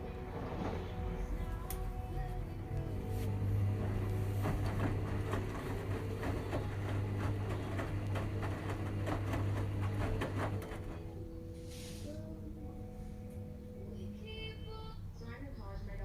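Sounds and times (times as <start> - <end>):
washing machine motor hum: 0.0 - 12.9.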